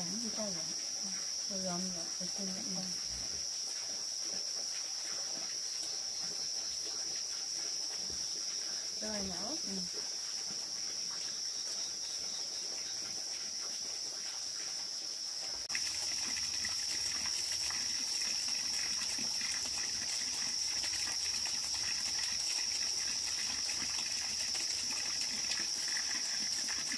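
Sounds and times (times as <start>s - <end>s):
crickets trilling: 0.0s - 26.9s.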